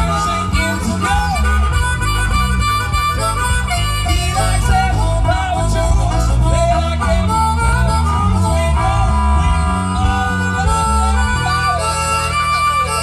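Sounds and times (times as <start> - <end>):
amplified harmonica bending notes: 0.0 - 13.0
rock band playing: 0.0 - 13.0.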